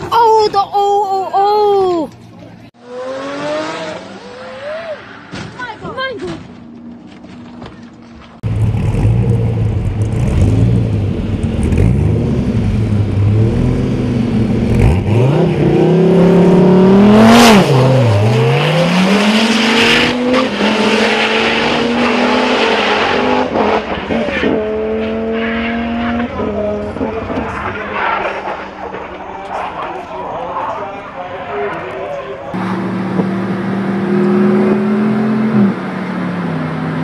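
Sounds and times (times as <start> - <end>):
car engine revving: 2.8 - 5.6, 8.4 - 37.0.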